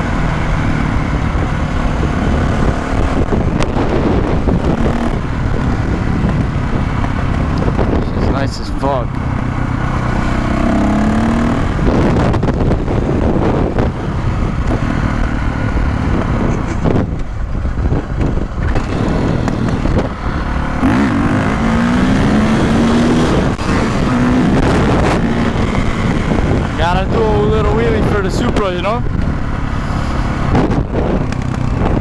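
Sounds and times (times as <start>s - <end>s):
dirt bike engine revving: 0.0s - 17.0s, 18.6s - 32.0s
wind rushing on microphone: 0.0s - 32.0s.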